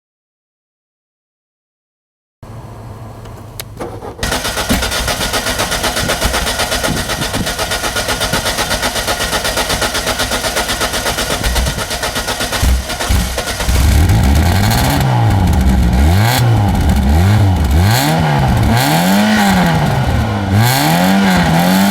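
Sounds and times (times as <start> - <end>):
car engine starting and running: 2.4 - 21.9
engine clicks: 3.2 - 21.9.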